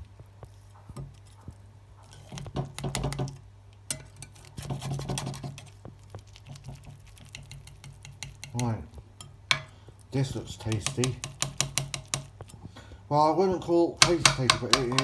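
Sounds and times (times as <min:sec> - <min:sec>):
utensil scraping against dish: 0:00.8 - 0:12.6, 0:14.0 - 0:15.0.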